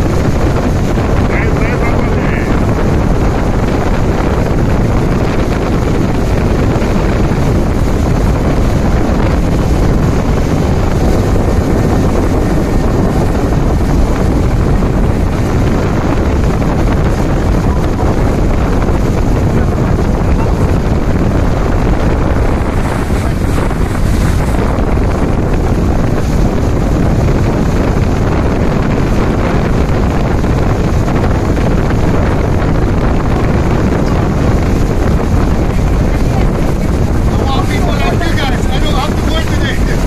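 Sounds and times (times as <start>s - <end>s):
boat engine drone: 0.0s - 40.0s
water rushing along hull: 0.0s - 40.0s
wind buffeting microphone: 0.0s - 40.0s.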